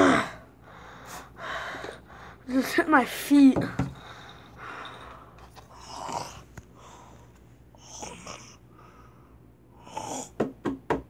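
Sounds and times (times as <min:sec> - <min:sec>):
person breathing noisily: 0:00.0 - 0:02.5, 0:03.8 - 0:10.4.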